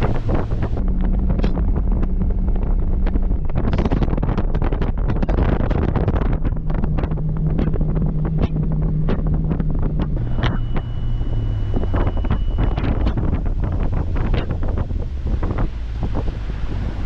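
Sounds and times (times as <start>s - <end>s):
outboard motor running: 0.0s - 17.0s
wind buffeting microphone: 0.0s - 17.0s.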